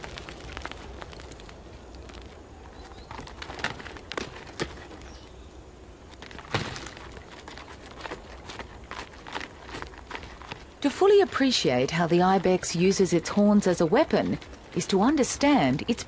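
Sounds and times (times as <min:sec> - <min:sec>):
hooves clattering on rock: 0:00.0 - 0:05.4, 0:06.0 - 0:16.0.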